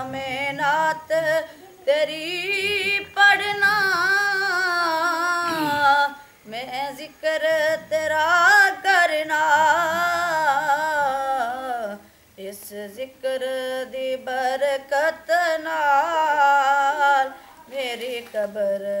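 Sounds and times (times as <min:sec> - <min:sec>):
boy singing unaccompanied: 0:00.0 - 0:19.0.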